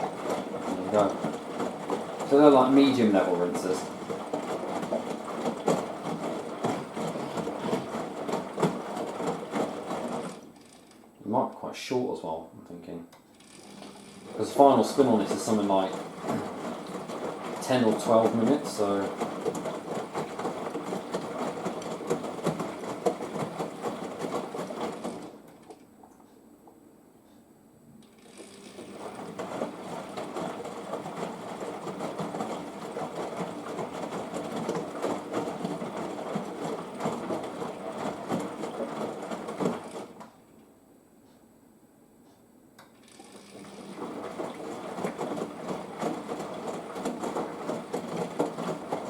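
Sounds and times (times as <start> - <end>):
water splashing: 0.0 - 10.5, 13.8 - 25.5, 28.8 - 40.3, 43.3 - 49.0
washing machine drum tumbling: 0.0 - 10.6, 13.7 - 26.0, 28.5 - 40.5, 43.3 - 49.0.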